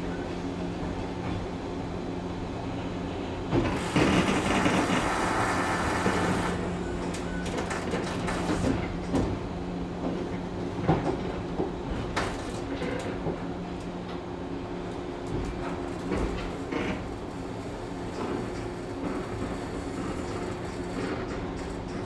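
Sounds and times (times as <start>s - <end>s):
train equipment hum: 0.0s - 22.0s.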